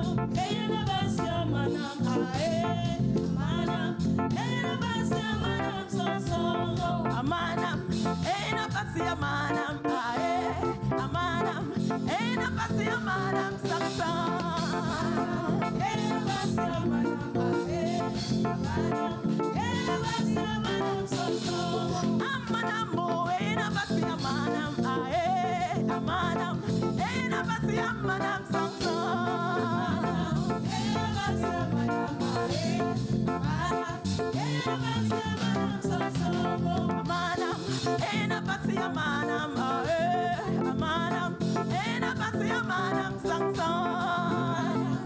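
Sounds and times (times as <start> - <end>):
live band playing: 0.0 - 45.0
person singing: 0.0 - 45.0.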